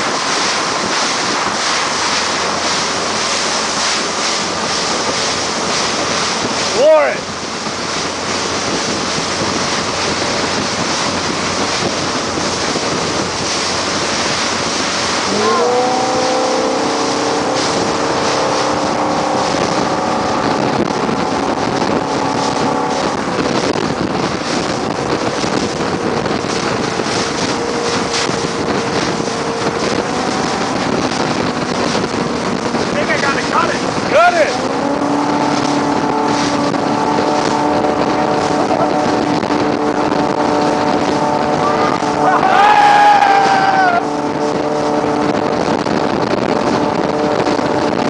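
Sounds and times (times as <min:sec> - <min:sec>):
rush of boat wake: 0:00.0 - 0:48.0
speedboat engine running: 0:00.0 - 0:48.0
wind buffeting microphone: 0:00.0 - 0:48.0.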